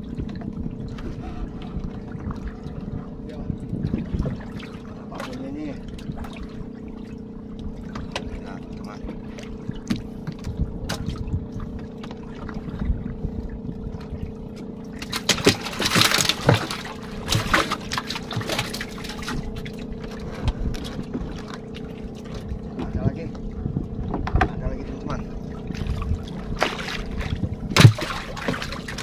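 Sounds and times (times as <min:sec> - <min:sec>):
line and hull knocking: 0:00.0 - 0:29.0
steady low hum: 0:00.0 - 0:29.0
water splashing: 0:00.0 - 0:29.0.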